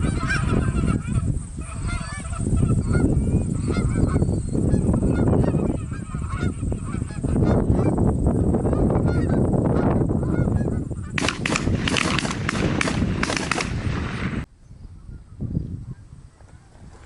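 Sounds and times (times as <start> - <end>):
geese honking: 0.0 - 13.7
wind rumble on microphone: 0.0 - 17.0.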